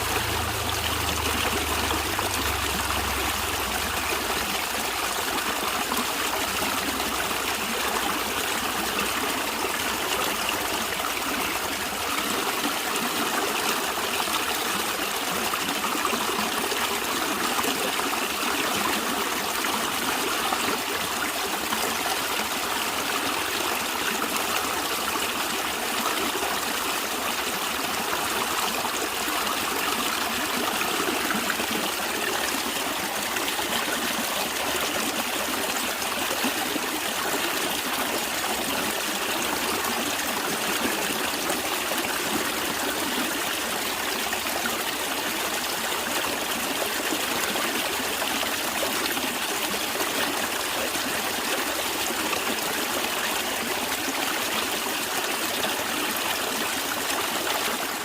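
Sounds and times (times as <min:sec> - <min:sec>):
stream of water trickling: 0:00.0 - 0:58.0.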